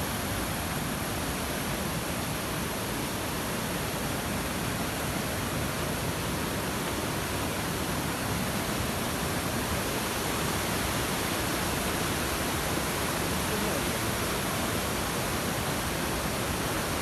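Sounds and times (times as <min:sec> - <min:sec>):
fast-flowing river water rushing: 0:00.0 - 0:17.0.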